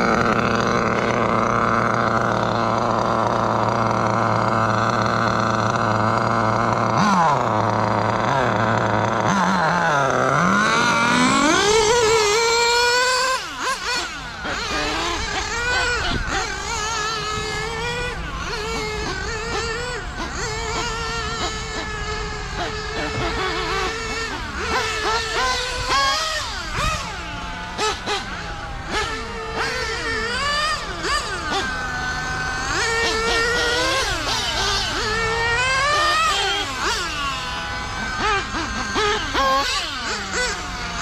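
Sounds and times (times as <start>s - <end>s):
nitro engine idling and revving: 0.0s - 41.0s.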